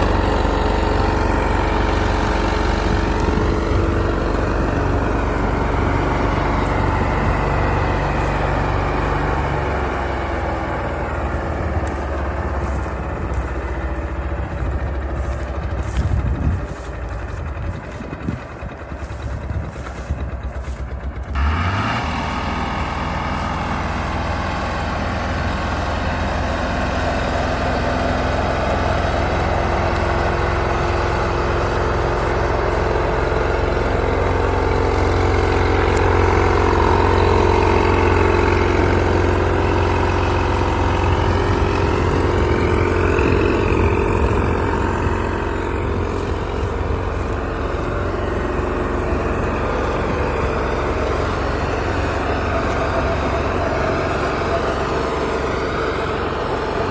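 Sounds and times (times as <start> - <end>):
combine harvester drone: 0.0 - 56.9.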